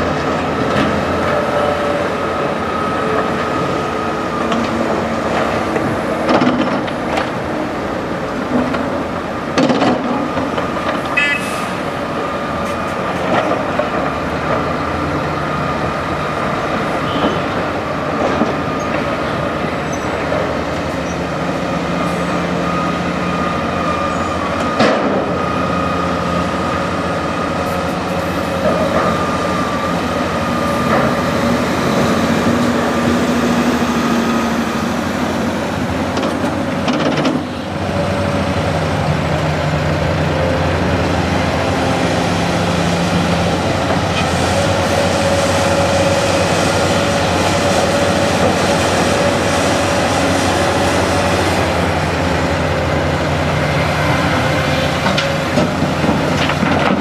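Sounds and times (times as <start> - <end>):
excavator diesel engine under load: 0.0 - 57.0
excavator clanking: 0.1 - 25.9, 26.6 - 57.0.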